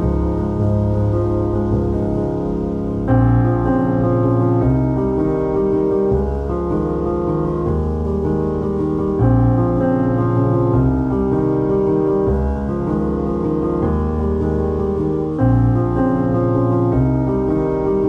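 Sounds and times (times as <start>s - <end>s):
slow piano piece: 0.0s - 18.0s.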